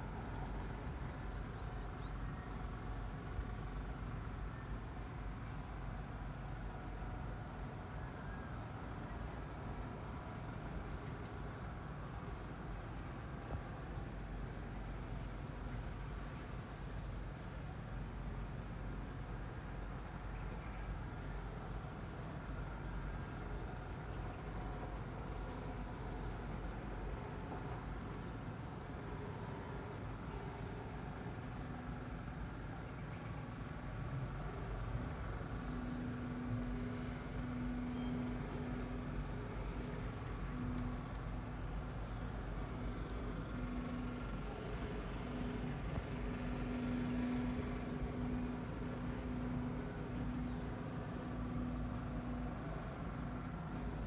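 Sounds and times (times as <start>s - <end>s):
distant construction machinery rumble: 0.0s - 54.0s.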